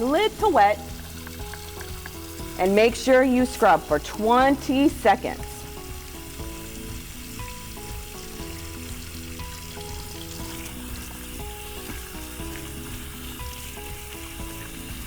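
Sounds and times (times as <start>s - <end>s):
background music: 0.0s - 15.0s
tap water running into sink: 0.0s - 15.0s.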